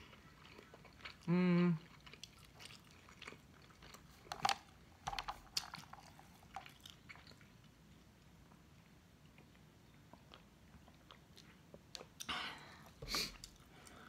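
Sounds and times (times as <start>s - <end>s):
faint chewing and mouth noises: 0.0s - 14.0s.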